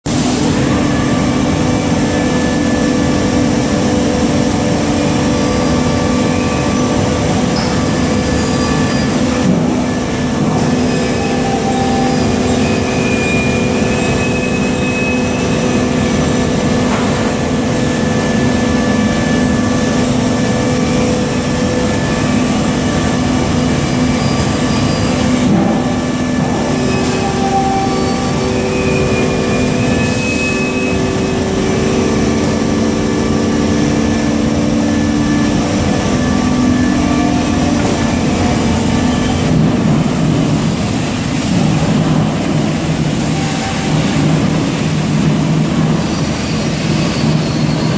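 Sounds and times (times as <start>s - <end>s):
machine whining tones: 0.1s - 47.9s.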